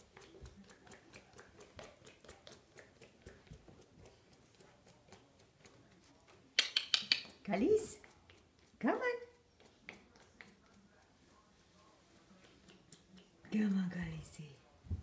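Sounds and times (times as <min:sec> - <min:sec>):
dog claws clicking: 0:00.0 - 0:13.6.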